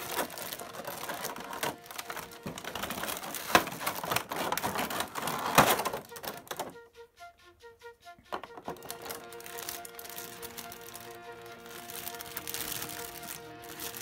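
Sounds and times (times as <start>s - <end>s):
plastic packaging crinkling: 0.0s - 6.8s, 8.4s - 14.0s.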